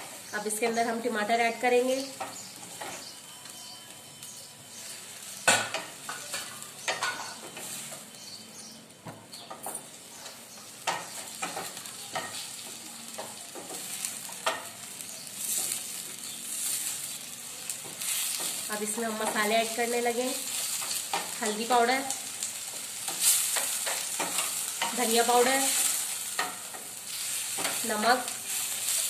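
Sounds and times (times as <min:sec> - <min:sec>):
tomatoes sizzling in oil: 0:00.0 - 0:29.0.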